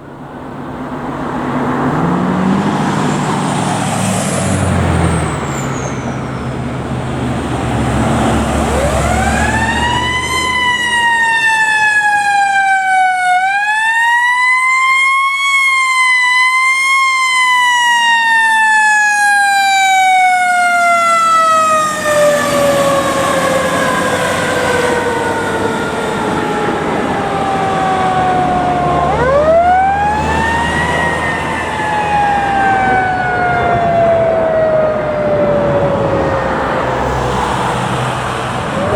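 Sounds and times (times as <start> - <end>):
heavy truck engine rumbling: 0.0 - 13.4, 18.4 - 38.9
fire truck siren wailing: 0.0 - 38.9.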